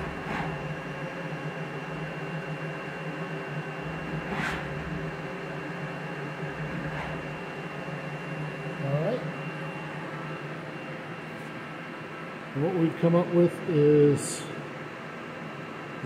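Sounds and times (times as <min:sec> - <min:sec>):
milling machine humming: 0:00.0 - 0:16.0.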